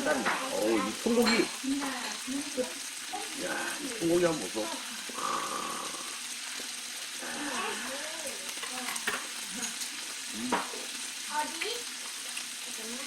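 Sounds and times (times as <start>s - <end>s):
pork sizzling and spitting: 0.0s - 13.0s.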